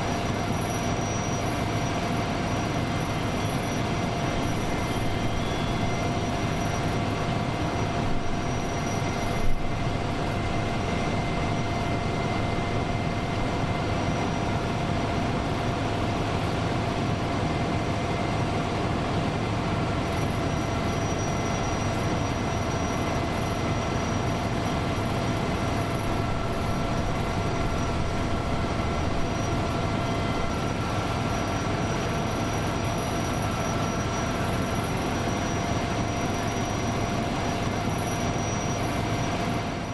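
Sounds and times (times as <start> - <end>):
mechanical hum and whine: 0.0 - 39.9.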